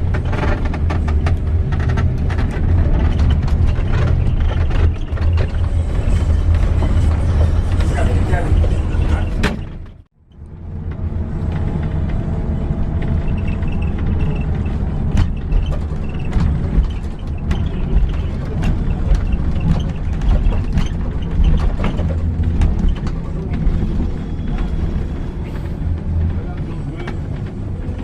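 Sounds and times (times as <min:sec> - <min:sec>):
bus rumbling: 0:00.0 - 0:28.0
interior rattles and clicks: 0:00.0 - 0:28.0.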